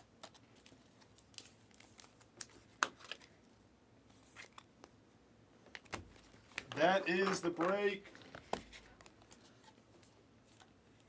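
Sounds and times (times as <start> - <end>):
cards and plastic sleeves rustling: 0.1 - 3.4, 4.0 - 5.0, 5.6 - 11.0.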